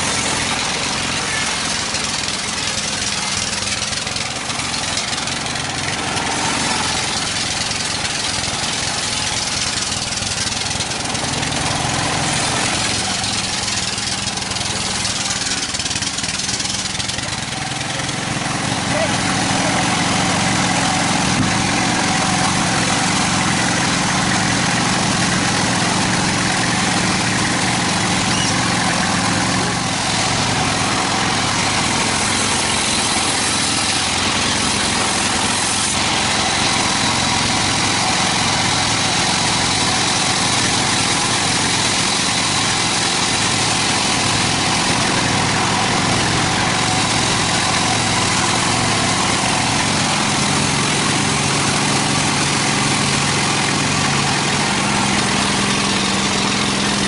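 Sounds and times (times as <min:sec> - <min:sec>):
band sawmill mechanical drone: 0:00.0 - 0:57.0.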